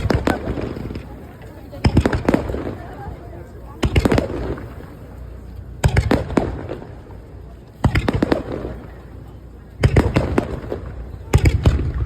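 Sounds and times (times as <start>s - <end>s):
fireworks bursting with sharp bangs: 0.0s - 3.2s, 3.8s - 5.1s, 5.8s - 9.1s, 9.8s - 12.0s
rumbling echo: 0.0s - 12.0s.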